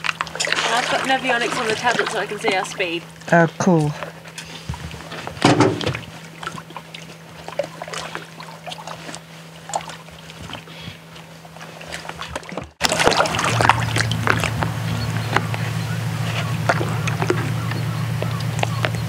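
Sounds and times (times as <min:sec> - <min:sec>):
water splashing against boat: 0:00.0 - 0:03.3, 0:04.2 - 0:19.0
outboard motor running: 0:00.0 - 0:19.0.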